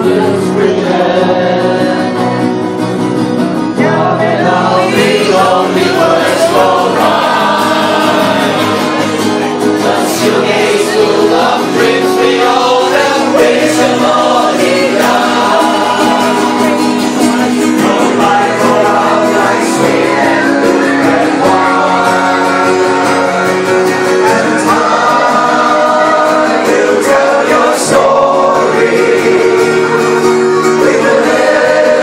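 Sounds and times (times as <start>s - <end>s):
group singing in chorus: 0.0s - 2.7s, 3.7s - 32.0s.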